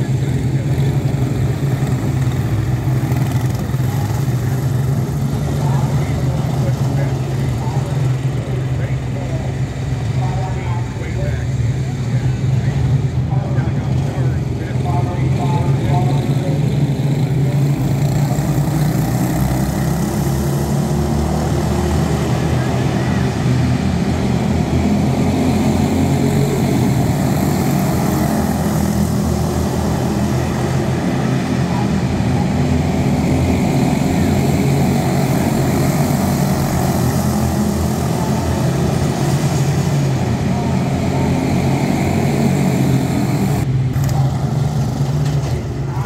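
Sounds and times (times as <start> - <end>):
race car engines droning: 0.0 - 46.0.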